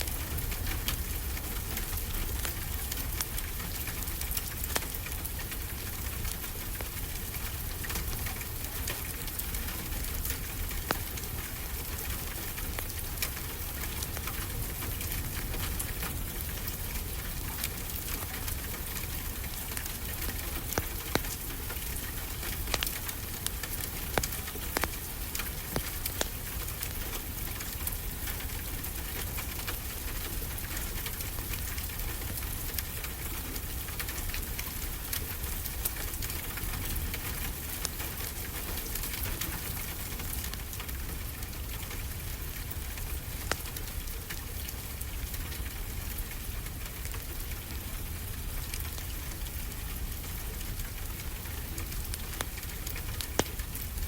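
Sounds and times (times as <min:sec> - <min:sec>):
wood fire crackling and popping: 0:00.0 - 0:45.8, 0:46.4 - 0:54.0.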